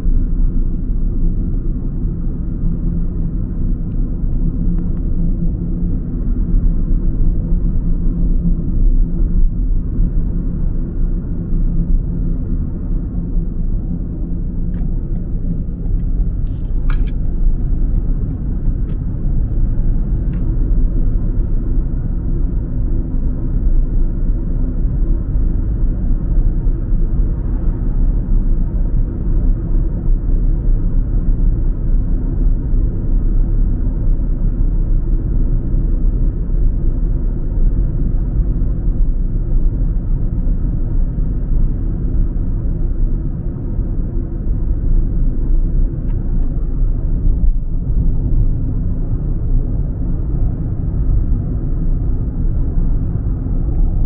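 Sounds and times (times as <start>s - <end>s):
car engine rumble: 0.0s - 54.0s.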